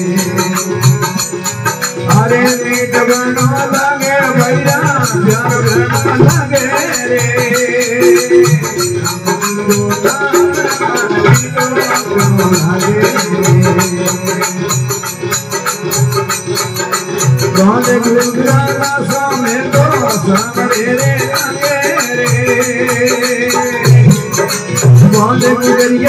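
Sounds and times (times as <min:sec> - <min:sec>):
hand drum beat: 0:00.0 - 0:26.0
harmonium melody: 0:00.0 - 0:26.0.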